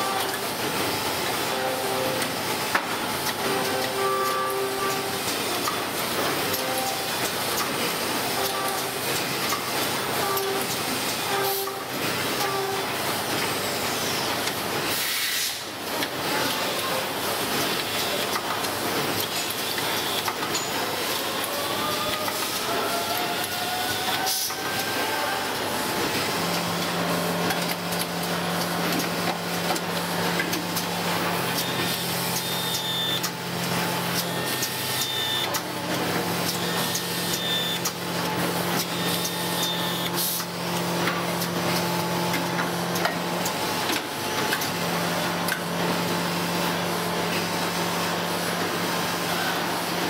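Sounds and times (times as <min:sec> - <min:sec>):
conveyor clicks and clacks: 0:00.0 - 0:50.0.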